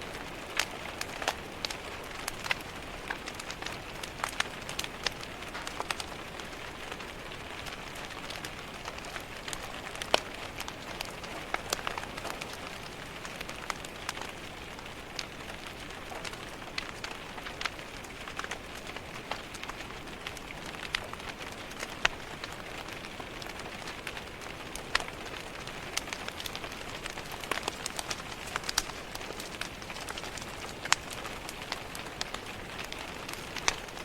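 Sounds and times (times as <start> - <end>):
rain on a window pane: 0.0 - 34.0
wood fire crackling and popping: 0.0 - 34.0.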